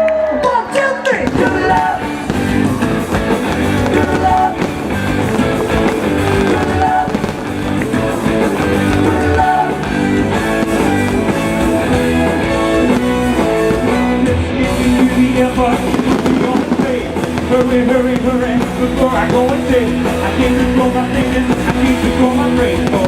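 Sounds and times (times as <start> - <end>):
live rock band playing: 1.2 - 23.0.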